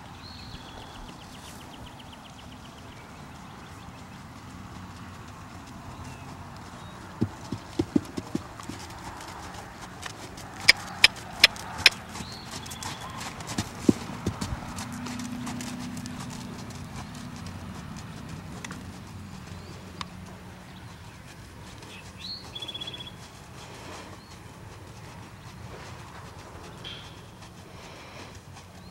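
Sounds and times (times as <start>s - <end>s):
horse hooves cantering on sand: 0.0s - 28.9s.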